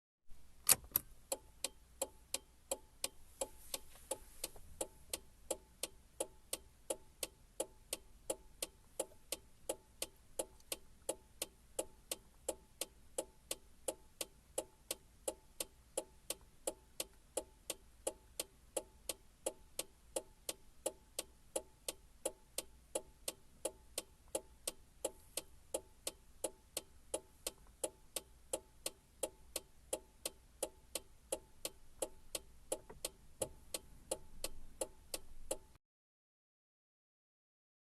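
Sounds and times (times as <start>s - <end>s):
car turn signal ticking: 0.6s - 35.8s.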